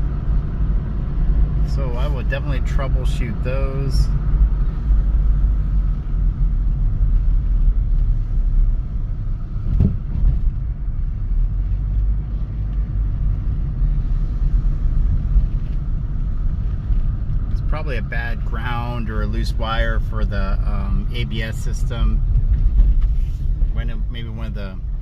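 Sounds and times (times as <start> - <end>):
car engine rumbling: 0.0 - 25.0.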